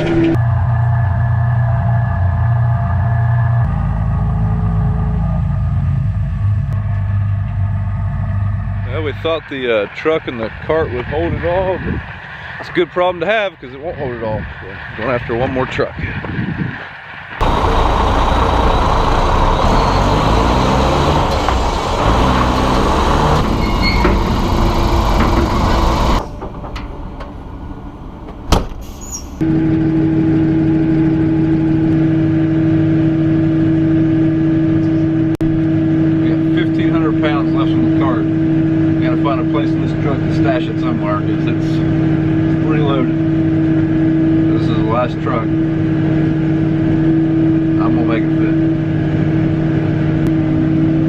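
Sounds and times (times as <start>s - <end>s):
combine harvester engine droning: 0.0s - 51.0s.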